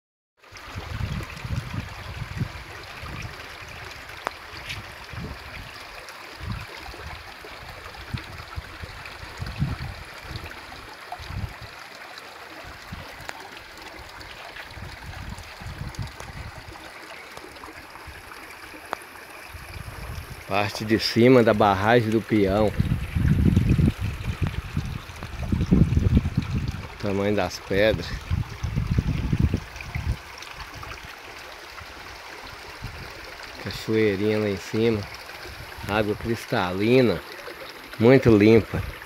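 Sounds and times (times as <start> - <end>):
creek water running over rocks: 0.4 - 39.0.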